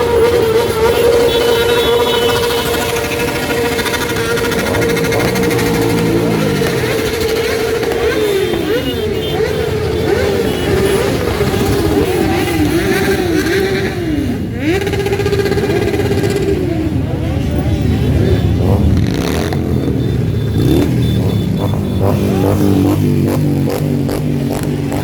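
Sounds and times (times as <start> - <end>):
motorcycles riding past revving: 0.0 - 25.0.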